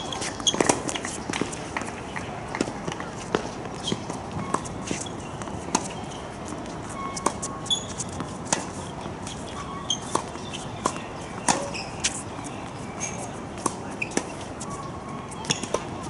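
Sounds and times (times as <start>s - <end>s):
tennis balls bouncing on hard court: 0.0s - 16.0s
tennis balls struck by rackets: 0.0s - 16.0s.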